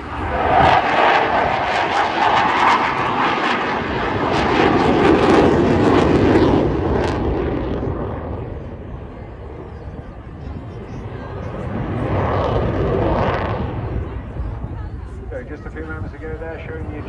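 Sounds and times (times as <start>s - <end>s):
crackling jet noise: 0.0s - 17.0s.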